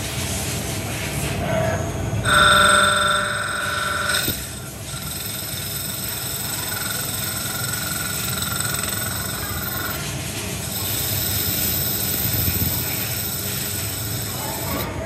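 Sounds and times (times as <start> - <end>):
lathe spindle running: 2.2 - 14.9
high whine of metal cutting: 2.2 - 15.0.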